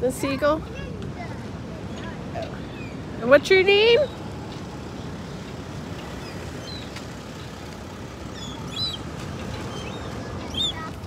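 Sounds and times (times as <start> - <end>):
low outdoor rumble: 0.0 - 11.0
gulls calling: 1.8 - 11.0.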